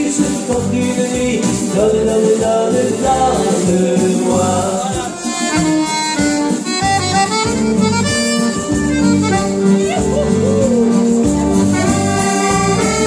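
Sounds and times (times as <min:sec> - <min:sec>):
accordion playing lively melody: 0:00.0 - 0:13.0.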